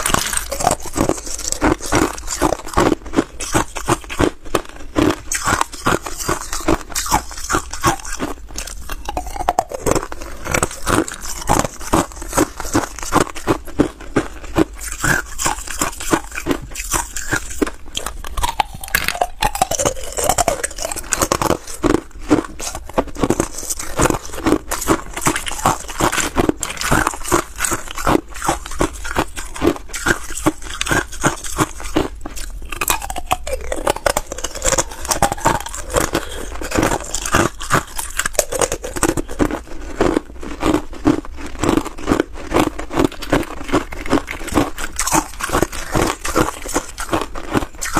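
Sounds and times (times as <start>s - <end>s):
ice cubes crunching in mouth: 0.0s - 47.9s.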